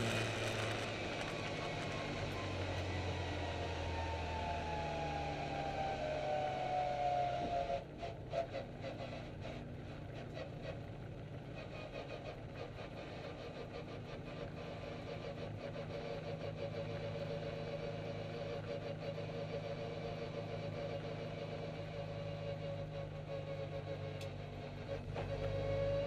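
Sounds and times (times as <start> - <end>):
race car engine at low revs: 0.0 - 26.0.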